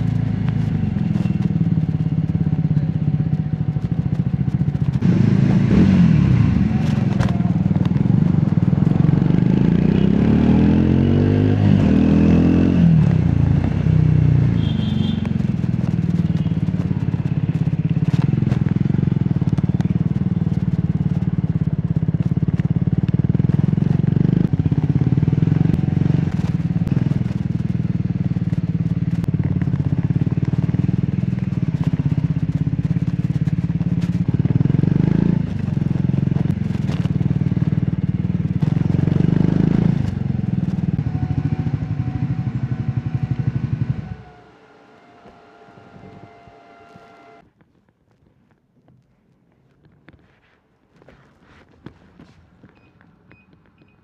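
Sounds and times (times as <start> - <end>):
motorcycle engine revving: 0.0 - 47.4.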